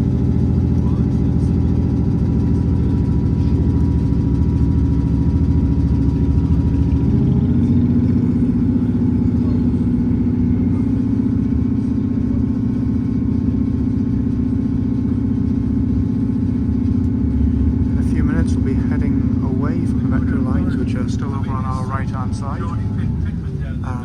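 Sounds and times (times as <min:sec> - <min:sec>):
train engine droning: 0:00.0 - 0:24.0.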